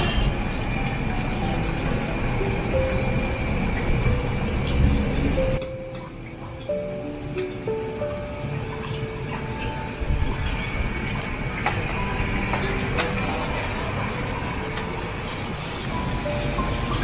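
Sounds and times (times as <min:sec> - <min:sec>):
steamer rumble and hiss: 0:00.0 - 0:17.0.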